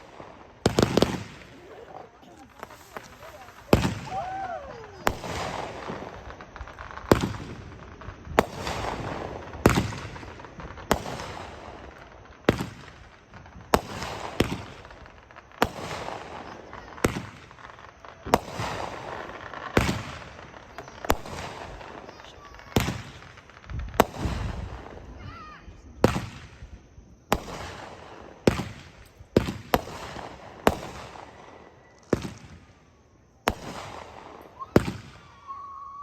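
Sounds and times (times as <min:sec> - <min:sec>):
firework bangs with crackle: 0:00.0 - 0:36.0.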